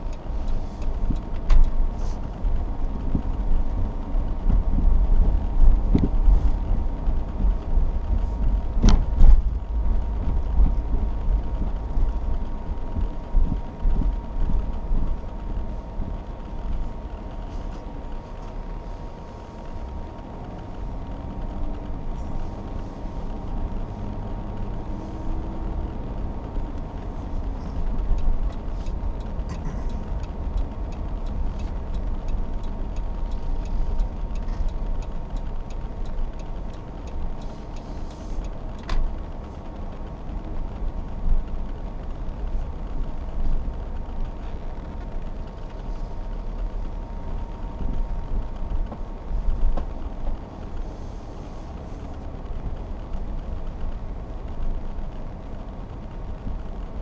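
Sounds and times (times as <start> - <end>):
engine and tyres rumbling: 0.0 - 57.0.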